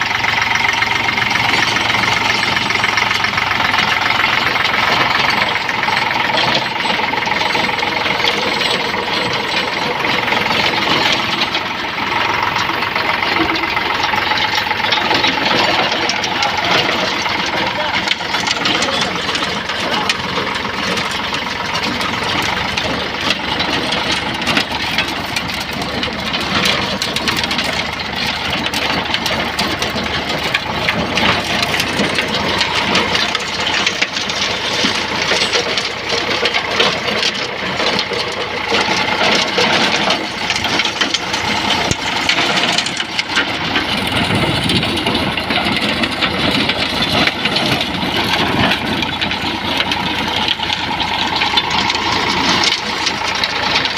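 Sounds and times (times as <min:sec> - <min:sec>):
tractor diesel engine clattering: 0:00.0 - 0:53.9.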